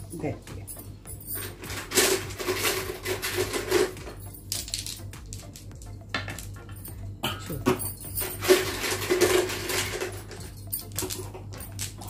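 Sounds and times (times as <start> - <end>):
clinks against metal plate: 1.2 - 12.0.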